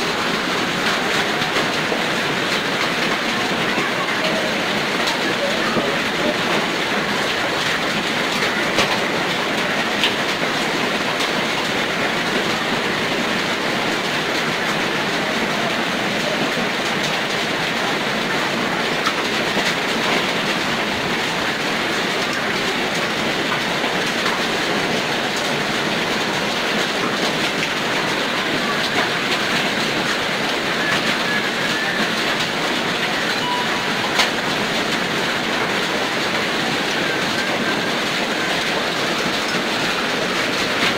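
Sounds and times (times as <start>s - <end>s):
hailstones ticking: 0.0s - 40.9s
heavy rain hissing: 0.0s - 40.9s.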